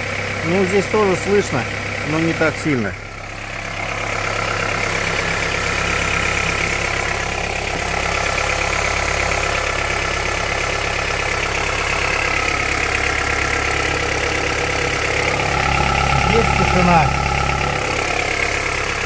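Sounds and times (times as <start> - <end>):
car engine idling with knocking: 0.0 - 19.0.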